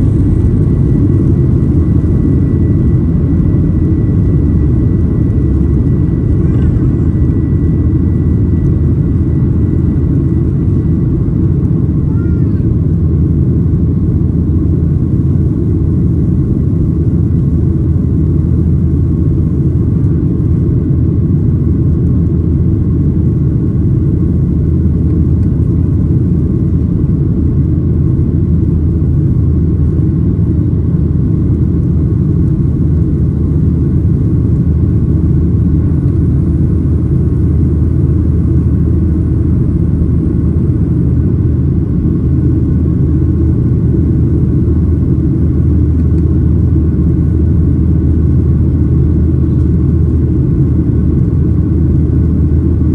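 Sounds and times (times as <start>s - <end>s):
jet engine rumble in cabin: 0.0s - 52.9s.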